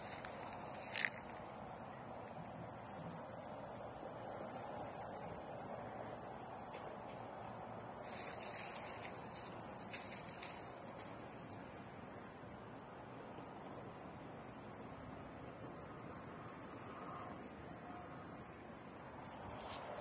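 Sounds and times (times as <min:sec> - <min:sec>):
crickets trilling: 0:00.0 - 0:12.6, 0:14.3 - 0:20.0.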